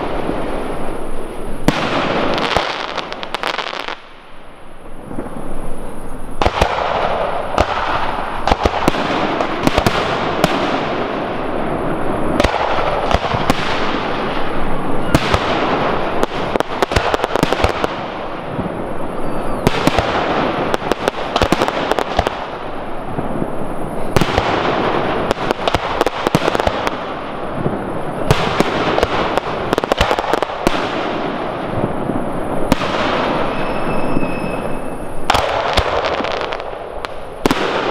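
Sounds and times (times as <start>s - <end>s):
dense firework crackling: 0.0s - 37.9s.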